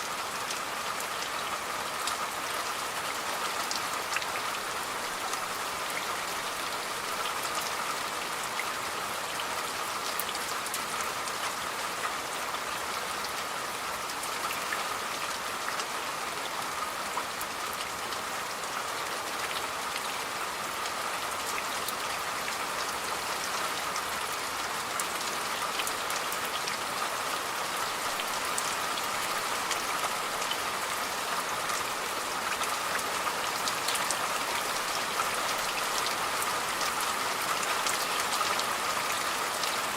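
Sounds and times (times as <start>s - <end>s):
rain drops striking a surface: 0.0s - 39.9s.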